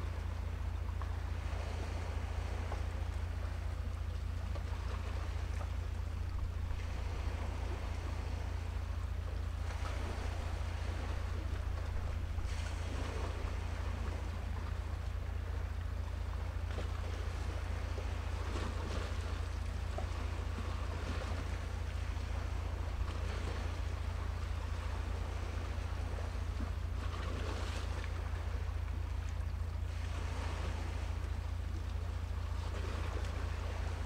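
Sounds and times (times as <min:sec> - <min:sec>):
sea: 0:00.0 - 0:34.0
wind: 0:00.0 - 0:34.0.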